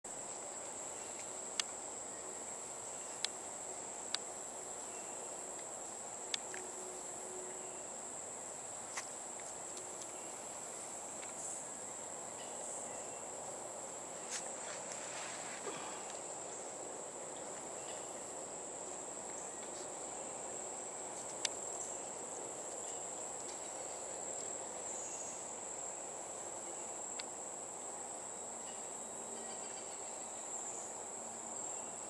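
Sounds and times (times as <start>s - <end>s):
insect chorus: 0.1s - 32.0s.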